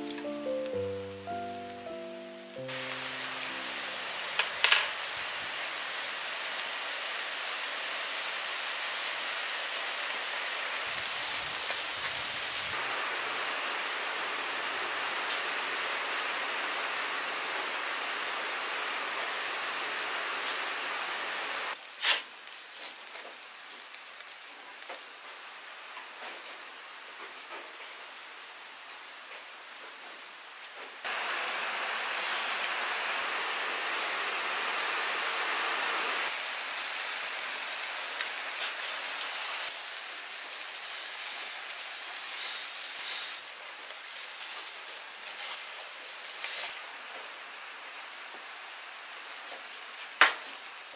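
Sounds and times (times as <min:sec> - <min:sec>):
chicken wings sizzling on grill: 0:00.0 - 0:50.9
rain hissing: 0:00.0 - 0:50.9.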